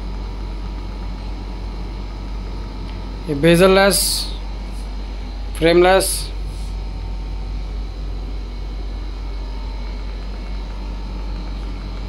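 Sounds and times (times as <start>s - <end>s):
faint hum tones: 0.0s - 12.0s
steady low rumble: 0.0s - 12.0s.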